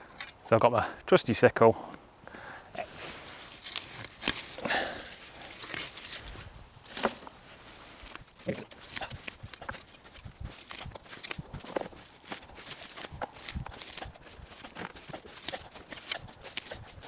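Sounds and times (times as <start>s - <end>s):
sickle swishing through foliage: 2.8s - 17.0s.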